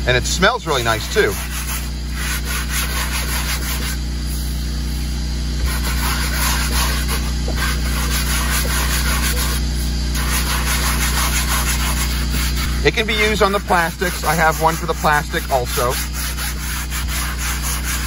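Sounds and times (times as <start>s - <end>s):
steady low hum: 0.0s - 18.0s
brush scrubbing upholstery: 0.2s - 18.0s.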